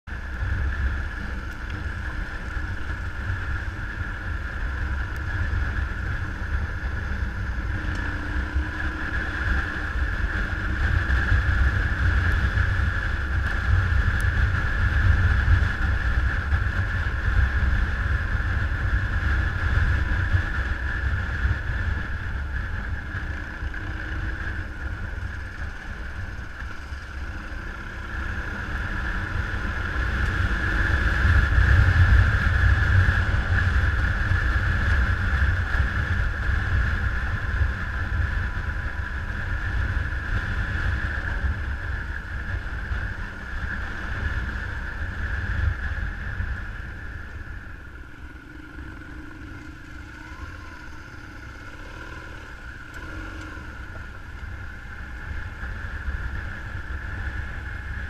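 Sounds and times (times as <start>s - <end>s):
engine running: 0.0s - 58.0s
wind rumble on microphone: 0.0s - 58.0s.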